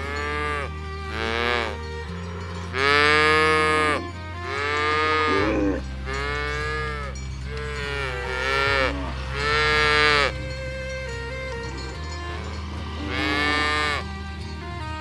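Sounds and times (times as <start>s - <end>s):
cows mooing: 0.0s - 15.0s.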